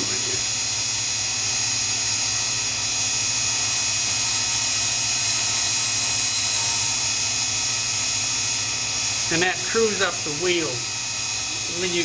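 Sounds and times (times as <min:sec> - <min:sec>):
grinding wheel hiss and whine: 0:00.0 - 0:12.0.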